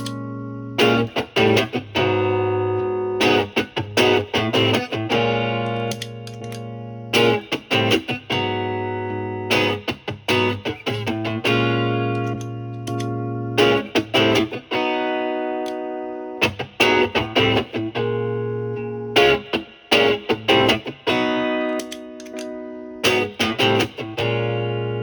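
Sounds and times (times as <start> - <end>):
overdriven electric guitar chords: 0.0 - 25.0.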